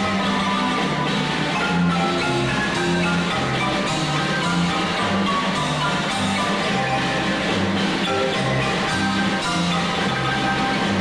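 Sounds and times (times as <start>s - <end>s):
drum kit: 0.0s - 11.0s
marimba: 0.0s - 11.0s.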